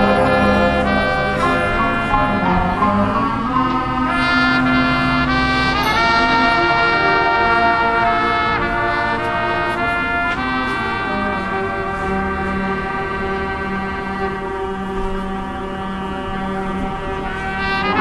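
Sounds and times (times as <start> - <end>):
brass section playing chords: 0.0 - 18.0.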